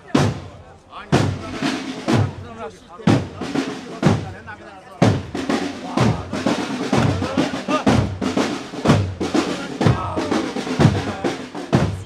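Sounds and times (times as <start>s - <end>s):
drums beating a marching cadence: 0.0s - 12.0s.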